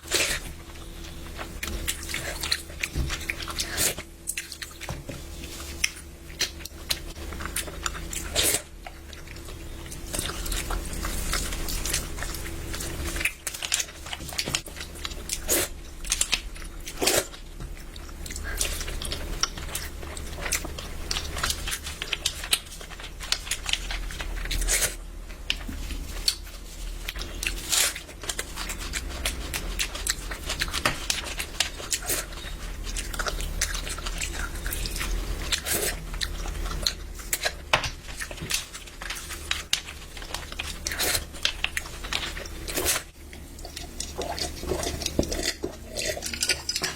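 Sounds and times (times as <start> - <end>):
person chewing and biting: 0.0 - 46.9
steady low hum: 0.0 - 46.9.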